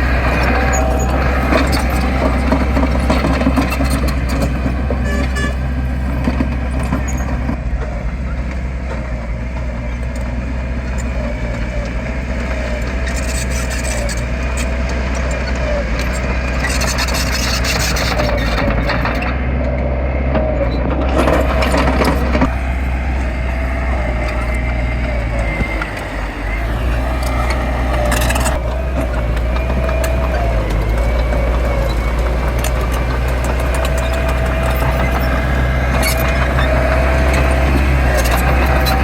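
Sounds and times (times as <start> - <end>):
diesel engine of earthmoving machinery: 0.0 - 39.0
gritty grinding noise: 0.0 - 39.0.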